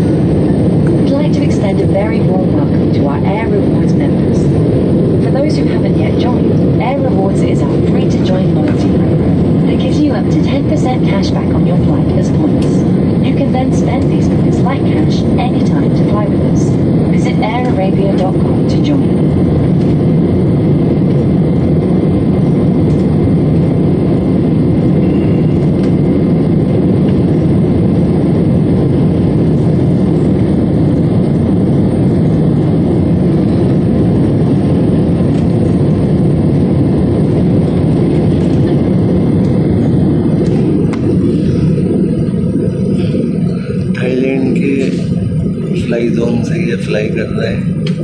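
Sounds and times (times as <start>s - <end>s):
airliner cabin engine rumble: 0.0s - 48.0s.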